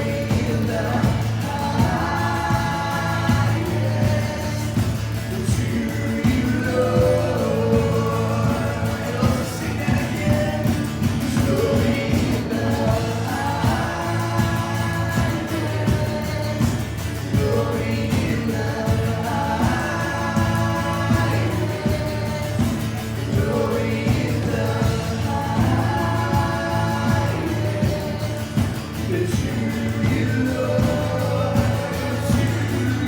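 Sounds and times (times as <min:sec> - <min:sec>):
band with beat and bass: 0:00.0 - 0:33.0
voices singing: 0:00.0 - 0:33.0.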